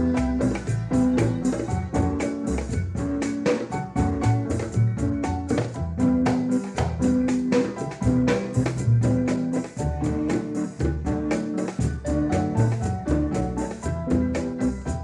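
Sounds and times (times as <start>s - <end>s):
upbeat organ music with beat: 0.0s - 15.0s.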